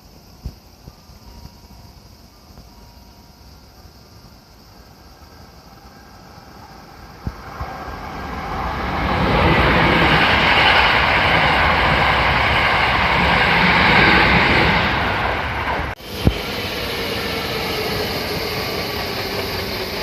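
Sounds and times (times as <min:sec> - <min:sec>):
train running: 0:00.0 - 0:20.0.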